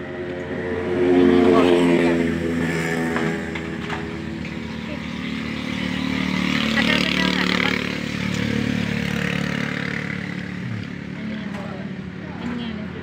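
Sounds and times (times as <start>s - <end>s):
vehicle engine running: 0.0s - 13.0s
vehicle passing by: 0.0s - 13.0s.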